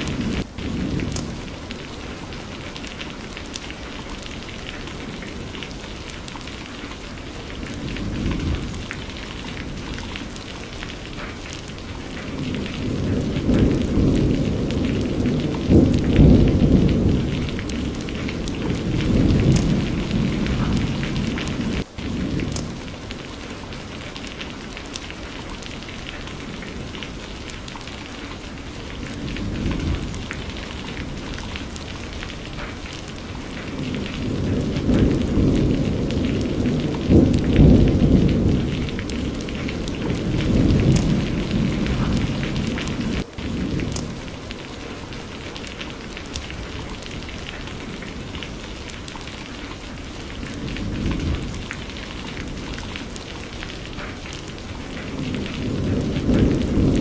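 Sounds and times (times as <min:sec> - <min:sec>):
rolling thunder: 0:00.0 - 0:03.1, 0:07.3 - 0:23.9, 0:25.9 - 0:57.0
steady rain: 0:00.0 - 0:57.0.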